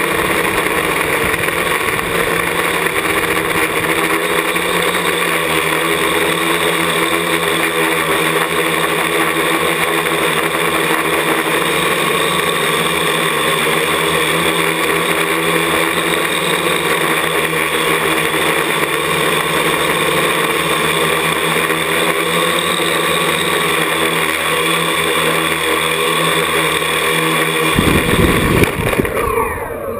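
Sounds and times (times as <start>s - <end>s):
quadcopter motors droning: 0.0s - 29.9s.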